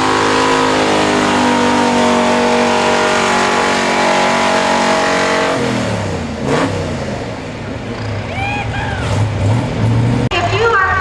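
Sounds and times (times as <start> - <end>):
truck engine running hard: 0.0 - 10.5.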